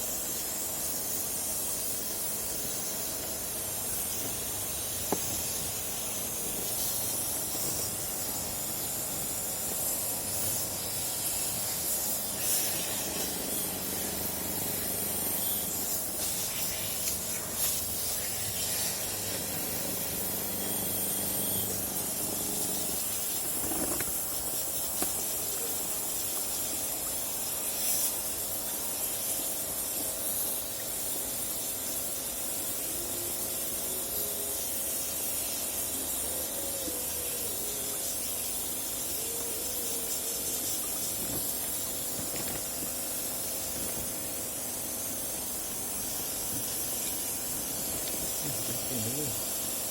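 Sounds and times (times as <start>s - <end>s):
hissing water spray: 0.0s - 49.9s.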